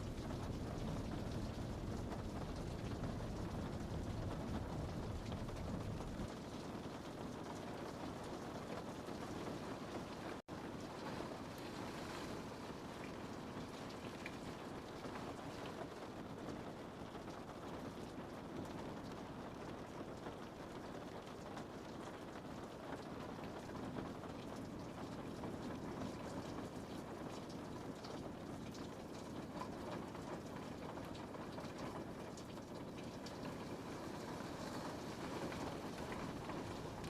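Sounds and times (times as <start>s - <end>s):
rain on a window: 0.0s - 37.0s.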